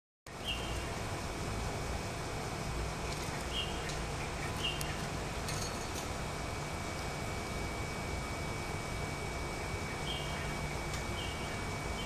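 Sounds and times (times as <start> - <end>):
low background hum: 0.3 - 12.0.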